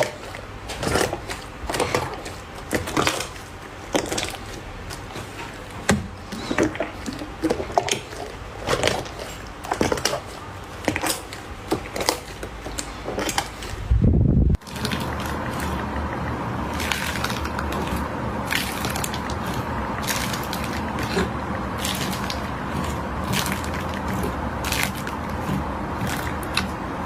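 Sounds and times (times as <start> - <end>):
deep slime squelch: 0.0 - 27.0.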